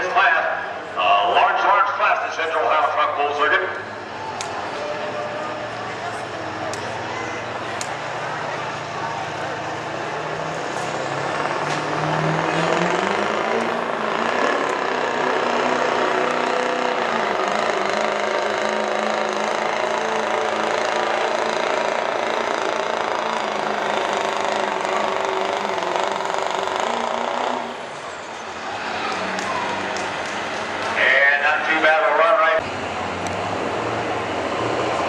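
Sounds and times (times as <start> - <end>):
diesel truck engine at full throttle: 0.0 - 35.0.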